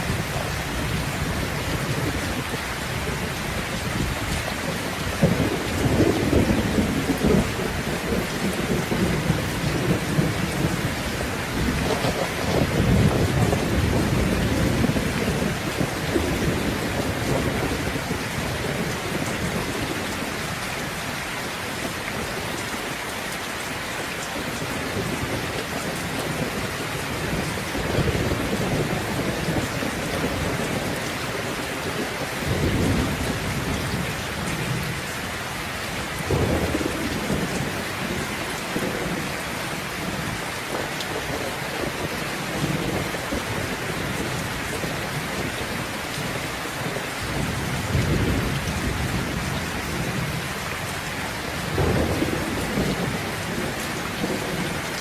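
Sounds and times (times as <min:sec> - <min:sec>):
rolling thunder rumbles: 0:00.0 - 0:22.6, 0:24.2 - 0:55.0
heavy rain falling: 0:00.0 - 0:55.0.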